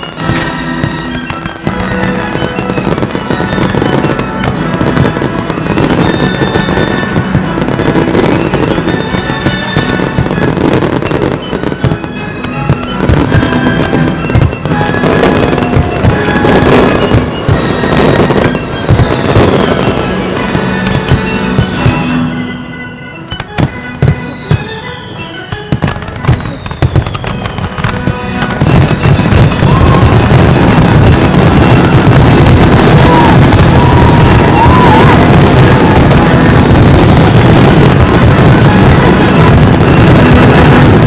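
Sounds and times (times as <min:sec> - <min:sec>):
fireworks bursting: 0:00.0 - 0:41.0
music with held notes: 0:00.0 - 0:41.0.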